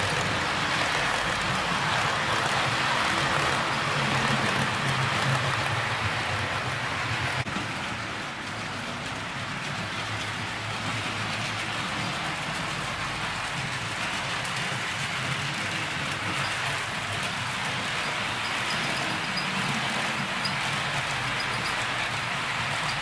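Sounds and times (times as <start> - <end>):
faint clicks at rail joints: 0.0 - 23.0
model train rumbling on track: 0.0 - 23.0.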